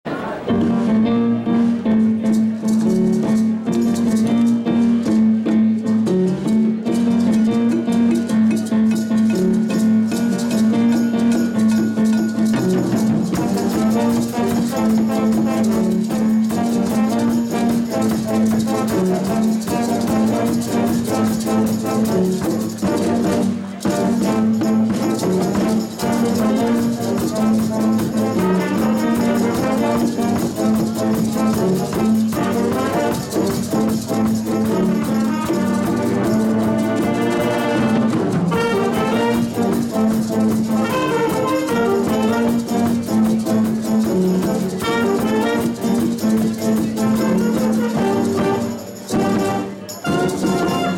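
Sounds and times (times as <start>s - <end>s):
jazz band playing: 0.1s - 50.9s.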